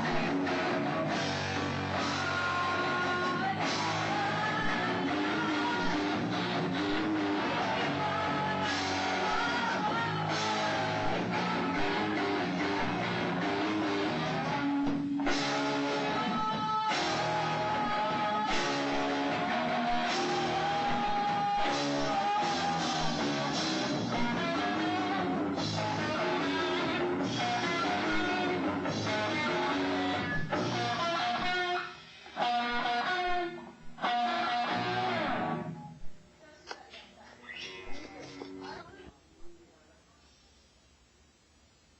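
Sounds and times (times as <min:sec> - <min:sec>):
rock band playing live: 0:00.0 - 0:35.9
electric guitar: 0:00.0 - 0:36.2.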